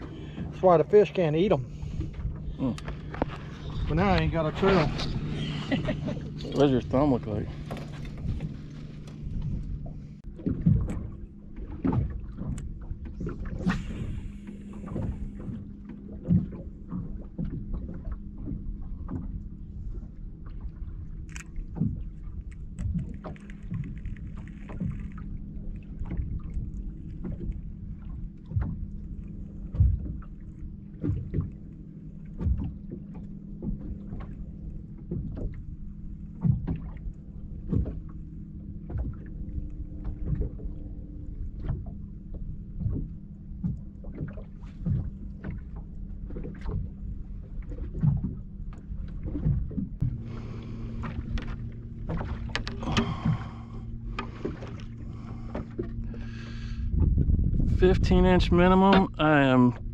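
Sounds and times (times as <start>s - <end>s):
steady low hum: 0.0s - 59.9s
waves slapping against hull: 0.0s - 59.9s.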